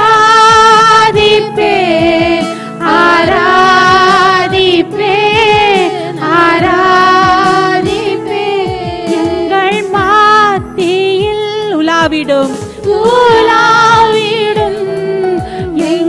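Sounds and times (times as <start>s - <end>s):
instrumental backing music: 0.0s - 16.0s
woman singing into microphone: 0.0s - 16.0s.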